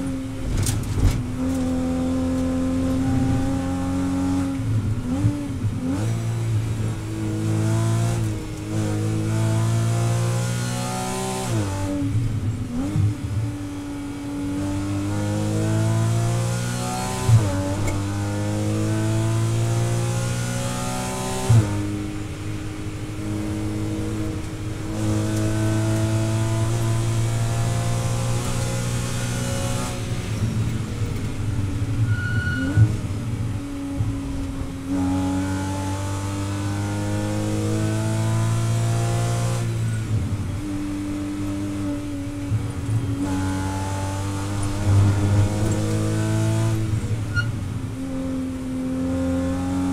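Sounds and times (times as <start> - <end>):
race car engine revving through gears: 0.0 - 49.9.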